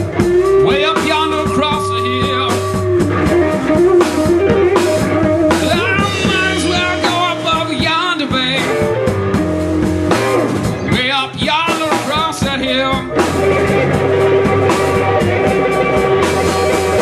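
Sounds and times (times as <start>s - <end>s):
bass guitar: 0.0s - 17.0s
drum kit: 0.0s - 17.0s
lead guitar with bent notes: 0.0s - 17.0s.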